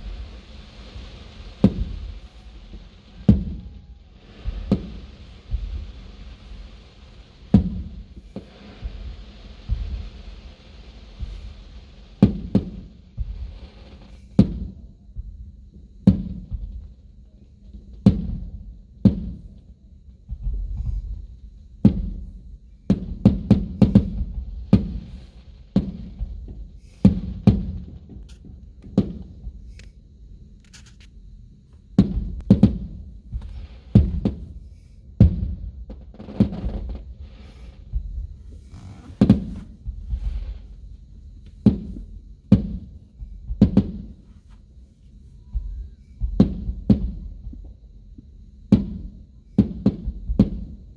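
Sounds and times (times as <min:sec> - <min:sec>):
fireworks booms and bangs: 0:00.0 - 0:29.9, 0:31.9 - 0:44.5, 0:45.5 - 0:50.9.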